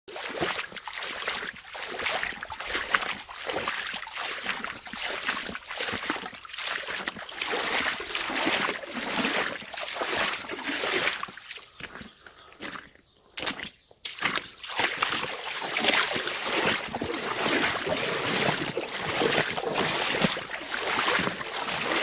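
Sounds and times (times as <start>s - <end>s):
stream splashing over rocks: 0.1s - 11.8s, 13.4s - 22.0s.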